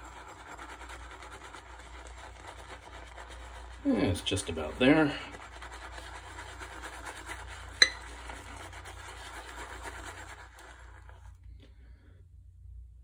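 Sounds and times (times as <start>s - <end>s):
shaving brush swirling lather: 0.0s - 11.8s.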